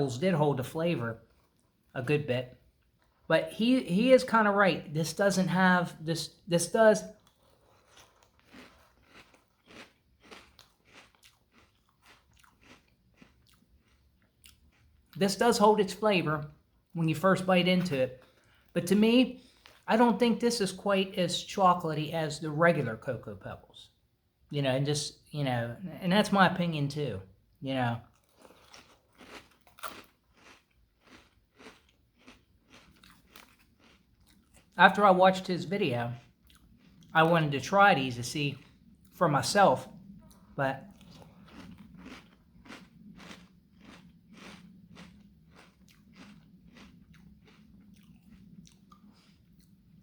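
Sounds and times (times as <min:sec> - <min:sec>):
chewing crunchy cereal: 0:00.0 - 0:21.6, 0:26.2 - 0:50.0.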